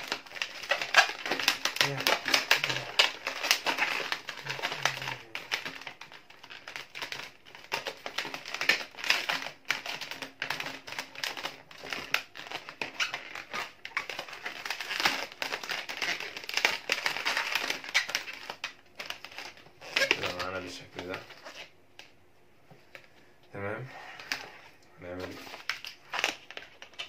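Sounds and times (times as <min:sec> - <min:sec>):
rubber balloons squeaky scraping: 0:00.0 - 0:21.8.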